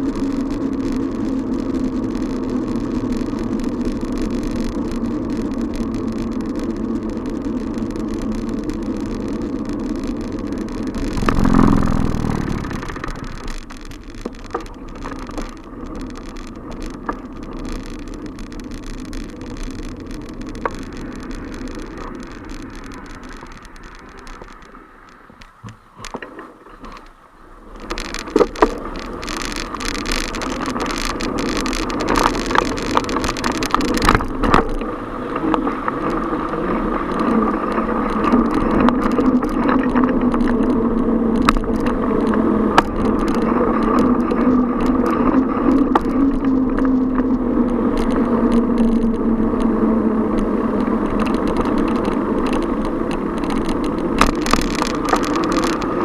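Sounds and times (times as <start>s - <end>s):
bicycle clicks and rattles: 0.0s - 56.0s
road and traffic noise: 0.0s - 56.0s.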